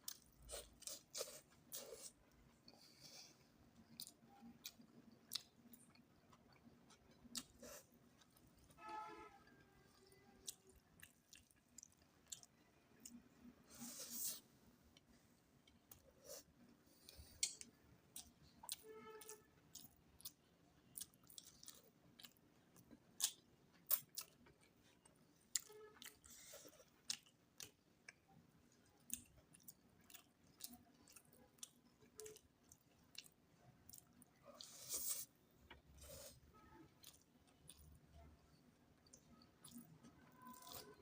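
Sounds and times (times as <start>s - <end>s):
person chewing food: 0.0s - 8.8s, 9.5s - 41.0s.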